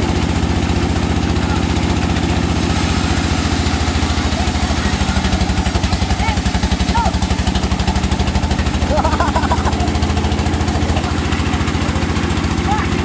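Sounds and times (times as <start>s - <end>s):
engine driving a wood saw: 0.0s - 13.0s.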